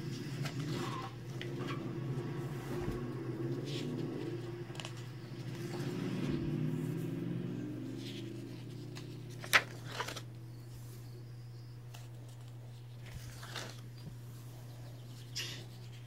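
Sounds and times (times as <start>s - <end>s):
sketchbook pages rustling: 0.0s - 6.9s, 7.8s - 11.2s, 11.8s - 16.0s
steady low hum: 0.0s - 16.0s.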